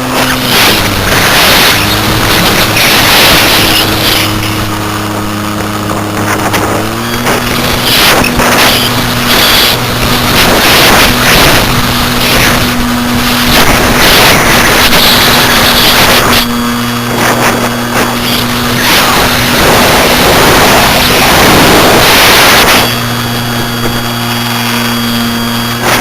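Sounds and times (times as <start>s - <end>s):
model plane motor humming: 0.0s - 26.0s
wind rushing over microphone: 0.0s - 26.0s.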